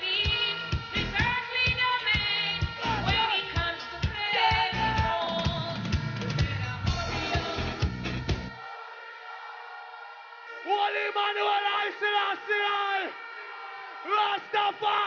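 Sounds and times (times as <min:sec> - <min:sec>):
gospel singing over a beat: 0:00.0 - 0:15.0.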